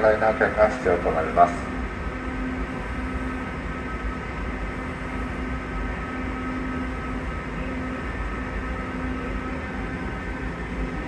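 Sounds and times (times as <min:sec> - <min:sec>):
constant tones: 0:00.0 - 0:11.0
train equipment hum and whine: 0:00.0 - 0:11.0.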